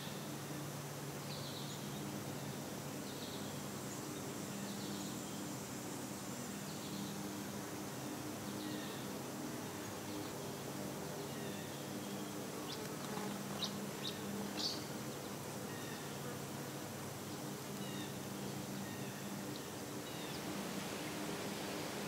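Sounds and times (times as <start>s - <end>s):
insect buzzing: 0.0s - 22.0s.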